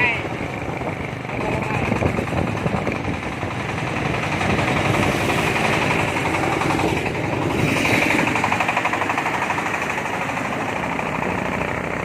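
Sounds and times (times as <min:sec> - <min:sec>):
corn sheller machine clatter: 0:00.0 - 0:12.0.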